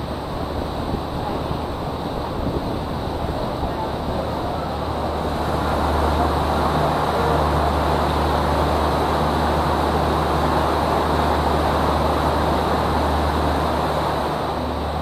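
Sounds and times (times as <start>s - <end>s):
boat engine droning: 0.0s - 15.0s
rushing noise: 0.0s - 15.0s.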